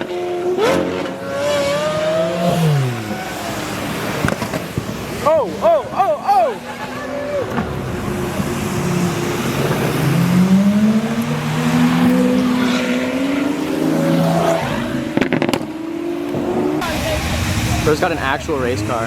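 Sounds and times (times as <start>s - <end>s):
car engine accelerating: 0.0s - 19.0s
road noise hiss: 0.0s - 19.0s.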